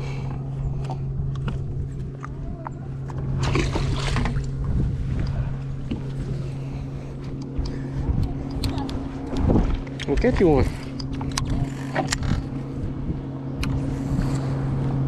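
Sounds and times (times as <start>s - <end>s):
boat engine hum: 0.0s - 15.0s
wind and water noise: 0.0s - 15.0s.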